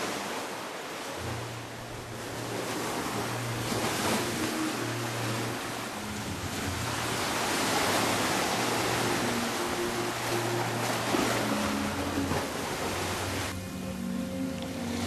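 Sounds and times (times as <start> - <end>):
sea waves washing over rocks: 0.0 - 13.6.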